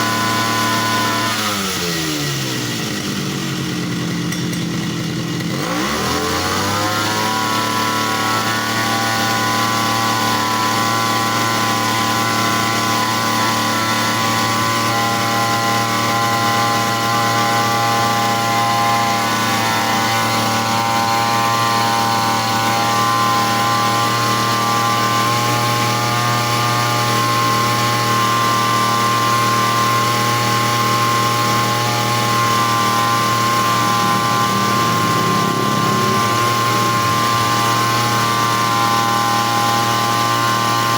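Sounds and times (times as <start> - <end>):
small engine running at high speed: 0.0 - 40.9.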